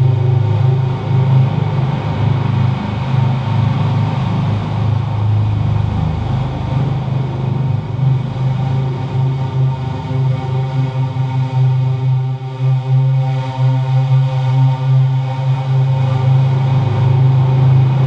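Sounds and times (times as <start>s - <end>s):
electronic low drone: 0.0s - 18.0s.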